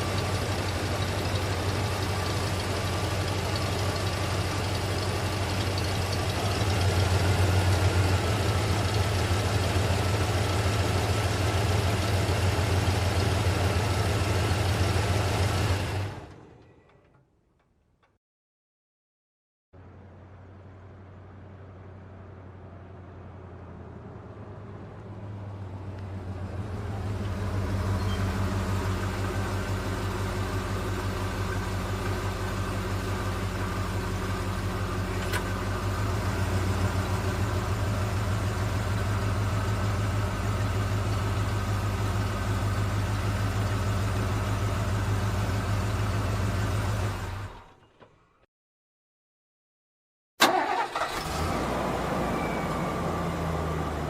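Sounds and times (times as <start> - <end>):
vehicle engine humming: 0.0 - 17.2, 19.8 - 48.3, 50.4 - 54.0.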